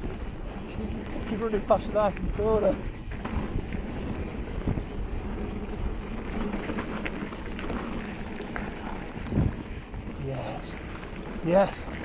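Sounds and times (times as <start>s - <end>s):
bike tyre rumble on dirt: 0.0s - 12.0s
wind buffeting microphone: 0.0s - 12.0s.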